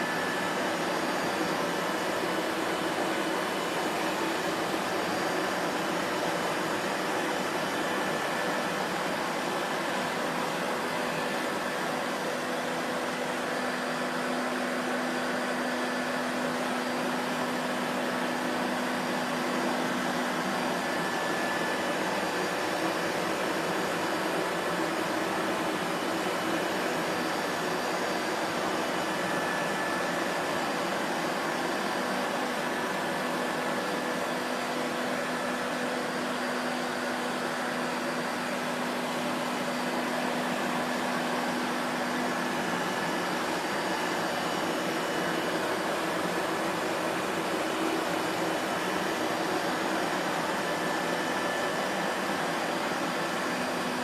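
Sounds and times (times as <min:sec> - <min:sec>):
vacuum cleaner motor running: 0:00.0 - 0:54.0.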